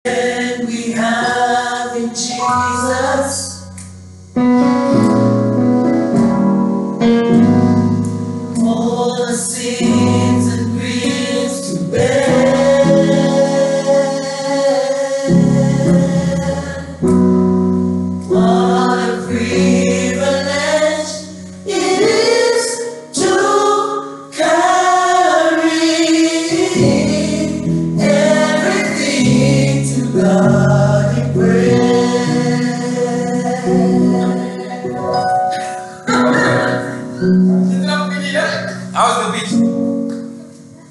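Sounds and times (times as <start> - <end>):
group singing gospel: 0.0 - 5.5, 7.2 - 37.4.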